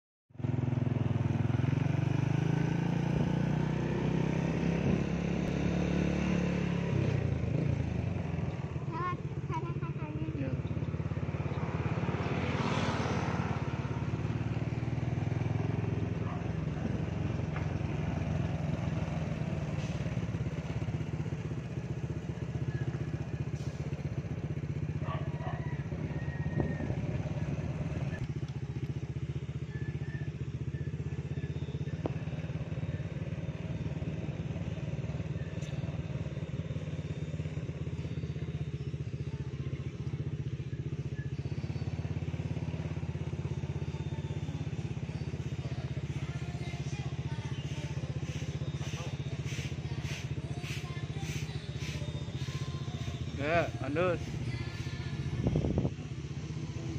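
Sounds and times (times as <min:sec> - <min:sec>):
motorbike engine droning: 0:00.3 - 0:56.9.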